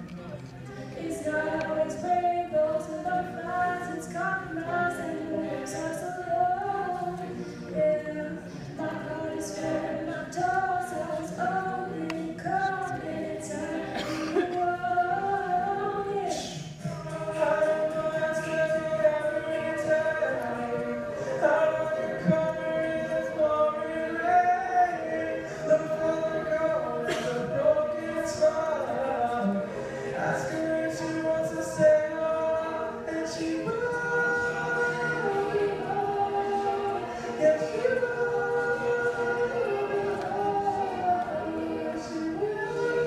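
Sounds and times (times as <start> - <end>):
mixed choir singing a cappella: 0.6 - 43.0.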